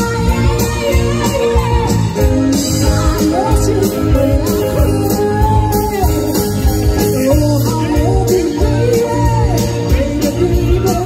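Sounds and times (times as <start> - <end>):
bass guitar: 0.0 - 11.0
electric guitars: 0.0 - 11.0
woman singing into microphone: 0.0 - 11.0.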